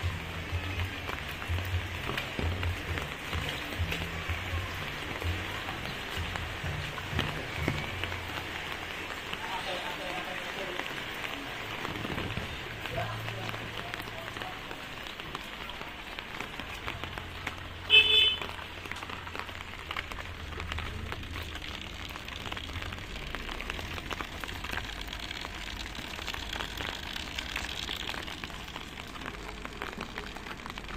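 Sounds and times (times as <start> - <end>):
light rain on wet pavement: 0.0 - 30.9.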